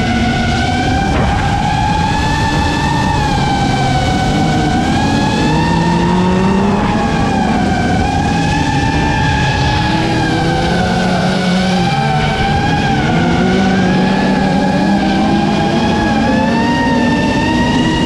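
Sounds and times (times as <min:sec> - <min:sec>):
quadcopter propellers whining: 0:00.0 - 0:18.0
race car engines revving: 0:00.0 - 0:18.0.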